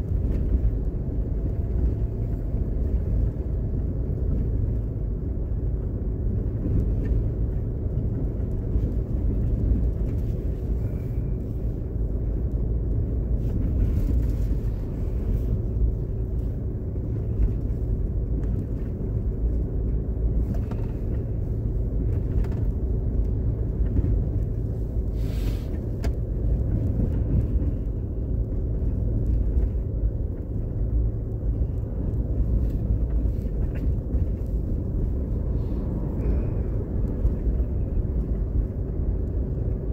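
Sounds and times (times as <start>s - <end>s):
car engine and tyre rumble: 0.0s - 39.9s
faint steady hum: 0.0s - 39.9s.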